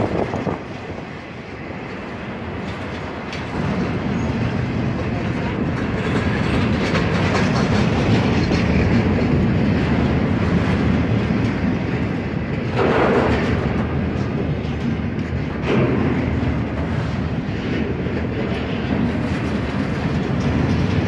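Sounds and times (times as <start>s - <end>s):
freight train wheels rumbling on rail: 0.0s - 21.0s
wheels clicking over rail joints: 0.0s - 21.0s.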